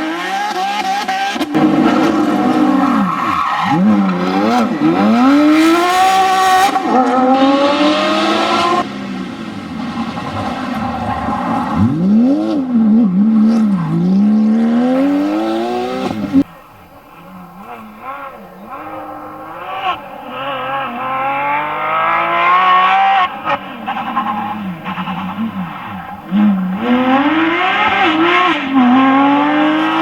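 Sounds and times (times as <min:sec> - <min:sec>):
rally car engine at full throttle: 0:00.0 - 0:30.0.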